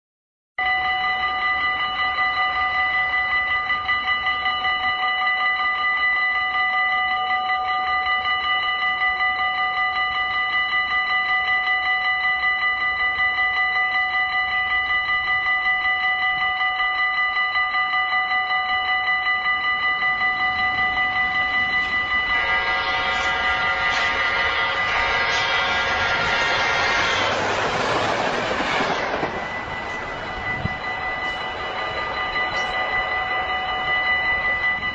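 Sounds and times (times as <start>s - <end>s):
approaching train: 0.6s - 34.9s
level crossing bell ringing: 0.6s - 34.9s.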